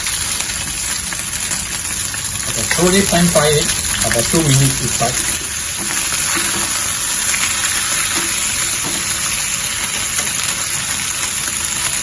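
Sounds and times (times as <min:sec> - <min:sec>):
pork chops sizzling in oil: 0:00.0 - 0:12.0.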